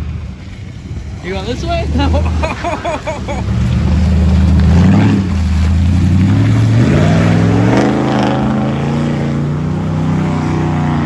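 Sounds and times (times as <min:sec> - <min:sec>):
pickup truck engine revving: 0:01.4 - 0:11.0.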